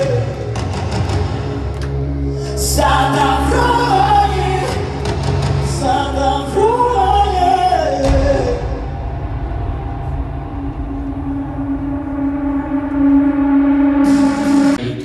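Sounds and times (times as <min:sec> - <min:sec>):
amplified backing music: 0:00.0 - 0:15.0
deep low rumble: 0:00.0 - 0:15.0.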